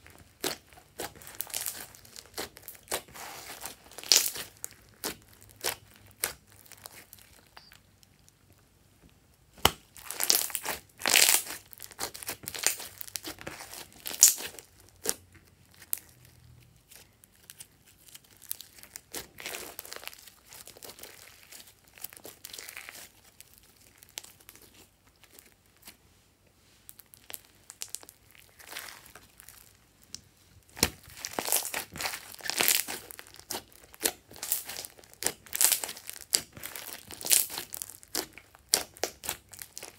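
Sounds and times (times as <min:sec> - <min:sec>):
slime squishing and crackling: 0:00.0 - 0:08.6, 0:09.5 - 0:26.0, 0:26.8 - 0:39.9.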